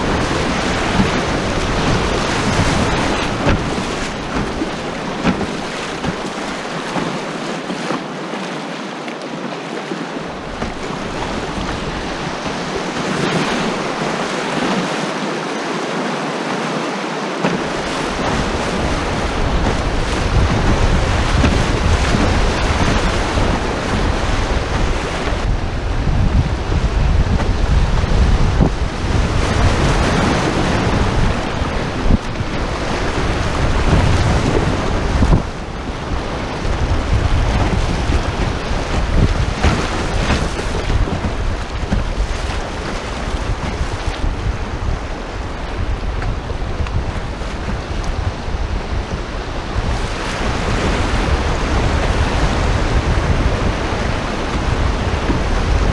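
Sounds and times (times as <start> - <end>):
wind buffeting microphone: 0.0 - 7.9, 10.2 - 15.2, 16.6 - 55.9
whitewater rapids rushing: 0.0 - 55.9.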